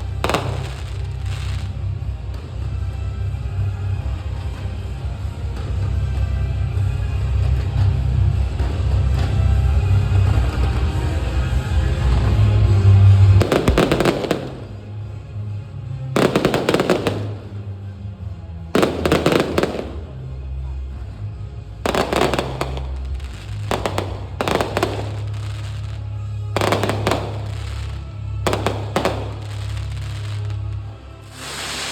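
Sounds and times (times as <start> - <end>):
fireworks crackling: 0.0 - 6.4, 7.0 - 15.2, 16.0 - 20.9, 21.8 - 31.9
bass-heavy music: 0.0 - 31.9.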